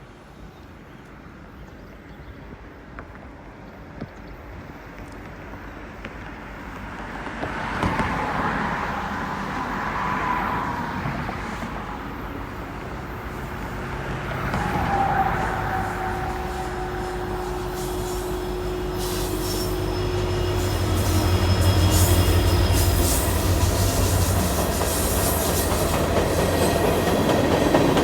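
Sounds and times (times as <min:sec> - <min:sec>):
freight train rumble: 0:00.1 - 0:28.0.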